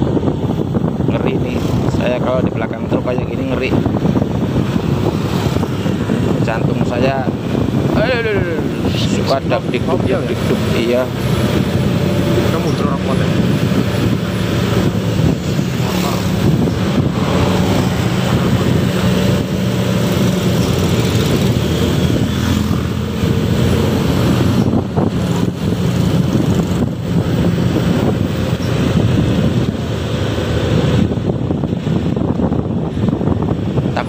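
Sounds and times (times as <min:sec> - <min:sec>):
motorcycle engine drone: 0:00.0 - 0:34.0
road and wind noise: 0:00.0 - 0:34.0.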